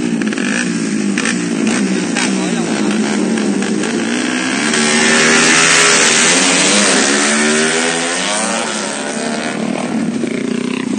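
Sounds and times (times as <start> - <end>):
motorcycle engines revving: 0.0 - 10.9.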